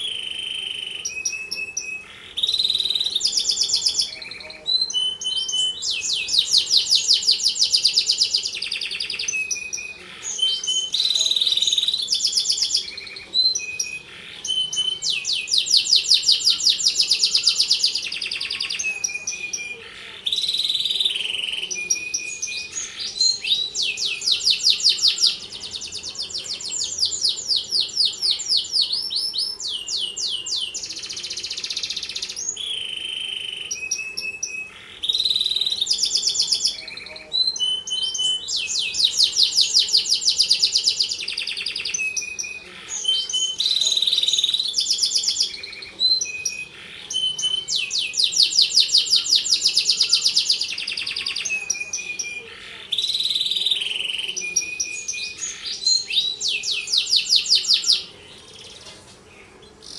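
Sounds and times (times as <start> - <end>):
canary singing trilled song: 0.0 - 59.9.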